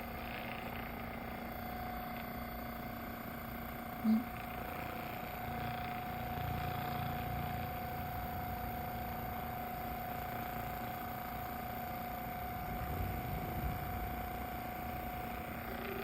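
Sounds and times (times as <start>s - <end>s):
massage gun motor hum: 0.0s - 16.0s.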